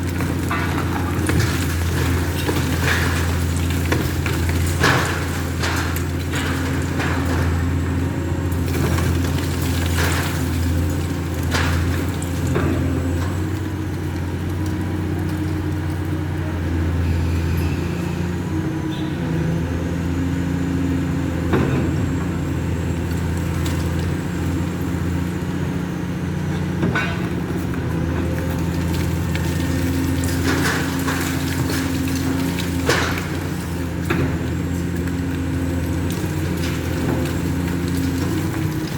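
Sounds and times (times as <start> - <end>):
demolition machine engine running: 0.0 - 38.9.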